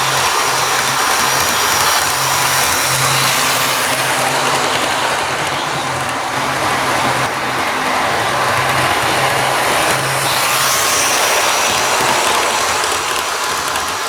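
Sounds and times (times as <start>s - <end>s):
model train whirring on track: 0.0s - 14.0s.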